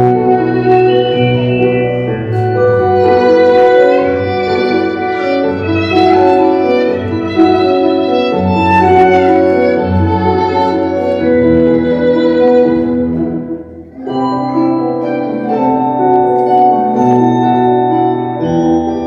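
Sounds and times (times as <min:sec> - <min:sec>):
bowed string melody: 0:00.0 - 0:19.0.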